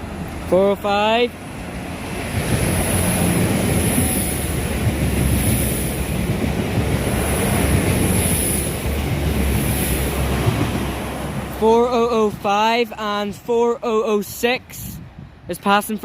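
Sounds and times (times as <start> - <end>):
train engines rumbling: 0.0 - 16.0.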